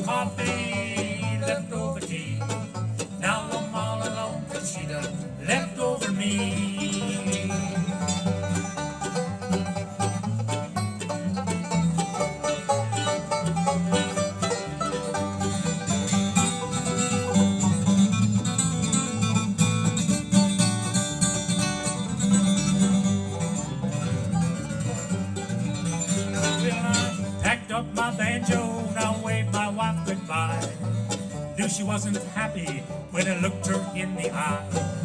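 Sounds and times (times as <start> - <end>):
banjo picking: 0.0 - 35.0
bass notes: 0.0 - 35.0
guitar picking: 0.0 - 35.0.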